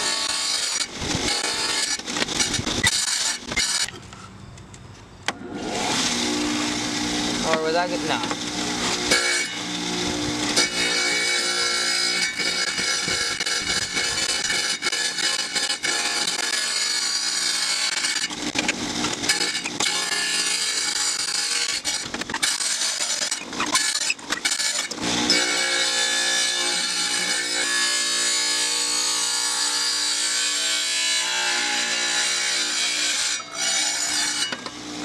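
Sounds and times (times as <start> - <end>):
saw blade cutting glass: 0.0 - 4.0, 5.5 - 34.8
tile saw motor hum: 0.0 - 4.0, 5.3 - 35.0.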